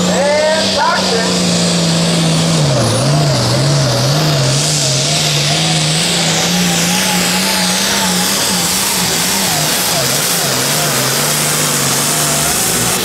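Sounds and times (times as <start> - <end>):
tractor engine at full throttle: 0.0 - 13.0.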